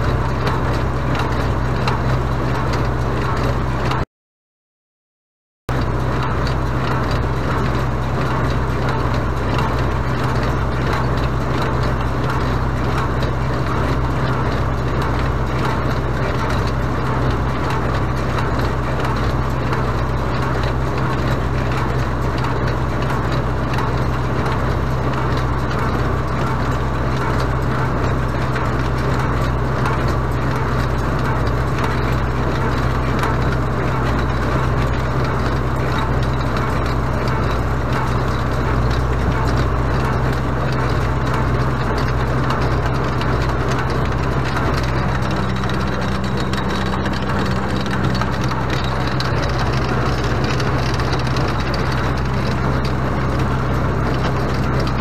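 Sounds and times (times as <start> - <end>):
baler mechanical clatter: 0.0 - 4.0, 5.7 - 55.0
tractor diesel engine droning: 5.7 - 55.0.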